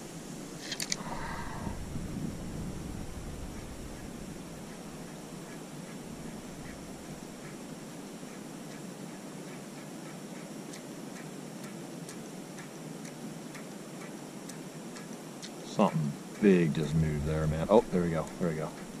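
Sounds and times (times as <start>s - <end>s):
wind hiss: 0.0s - 19.0s.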